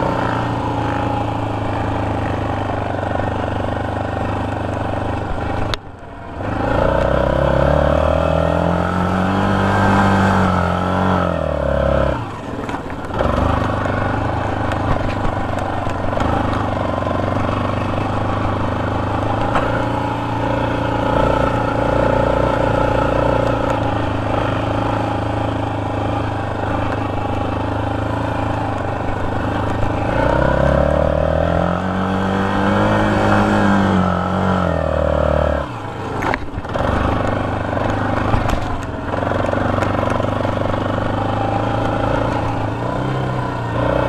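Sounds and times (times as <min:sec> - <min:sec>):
quad engine revving: 0:00.0 - 0:44.0.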